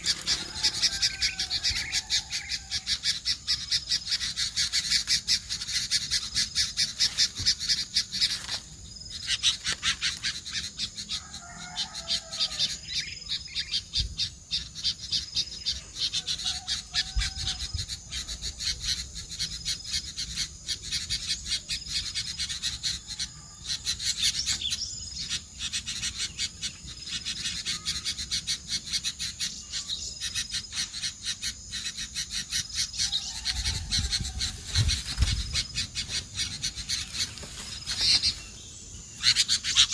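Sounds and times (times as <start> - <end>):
high-pitched bird chirring: 0.0 - 39.9
lower bird calls: 0.0 - 39.9.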